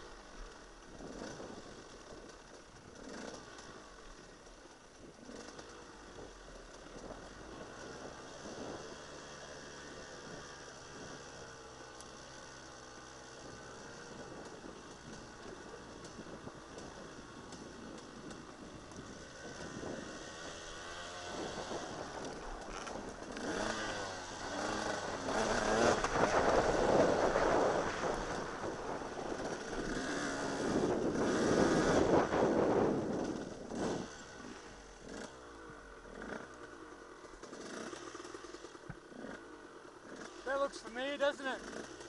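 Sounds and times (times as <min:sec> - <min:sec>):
dirt bike engine revving: 0:00.0 - 0:04.4, 0:05.1 - 0:42.0.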